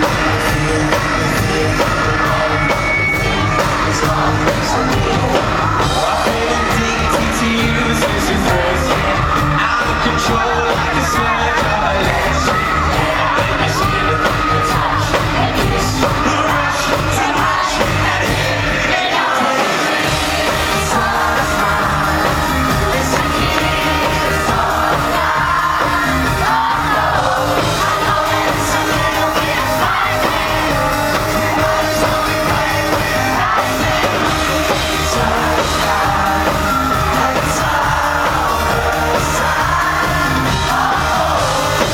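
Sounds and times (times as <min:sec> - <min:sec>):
boy band singing: 0:00.0 - 0:41.9
crowd yelling: 0:00.0 - 0:41.9
loud band music: 0:00.0 - 0:41.9.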